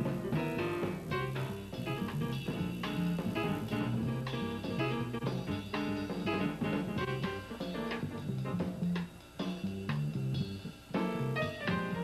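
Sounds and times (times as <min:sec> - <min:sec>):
drums: 0:00.0 - 0:12.0
piano: 0:00.0 - 0:12.0
upright bass walking: 0:00.0 - 0:12.0.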